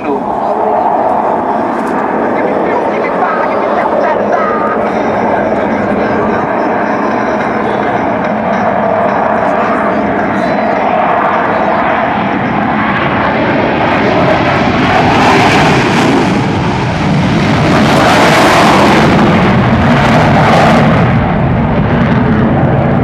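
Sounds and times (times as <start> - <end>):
jet engines in afterburner: 0.0 - 23.0.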